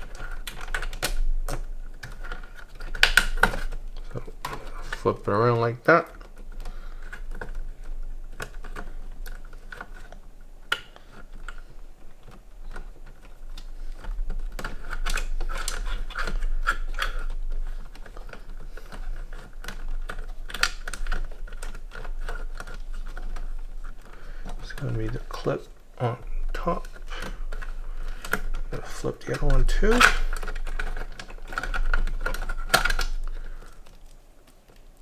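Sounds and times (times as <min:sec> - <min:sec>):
cables rustling: 0:00.0 - 0:35.0
small plastic clicks: 0:00.0 - 0:35.0.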